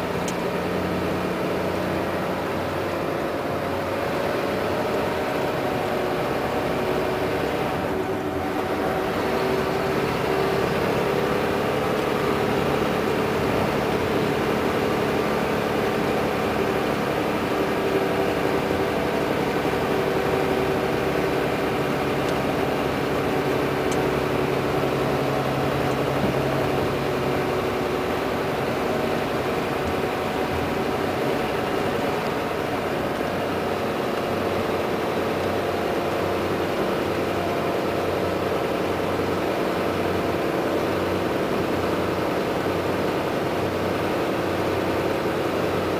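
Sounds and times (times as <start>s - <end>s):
diesel engine humming: 0.0s - 45.9s.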